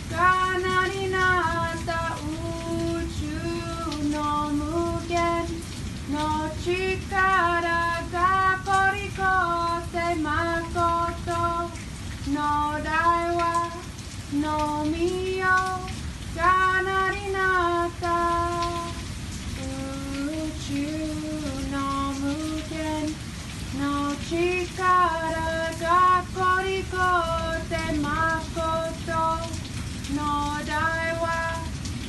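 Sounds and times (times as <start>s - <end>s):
person singing without instruments: 0.0s - 19.0s, 19.6s - 31.8s
steady rain-like hiss: 0.0s - 32.0s.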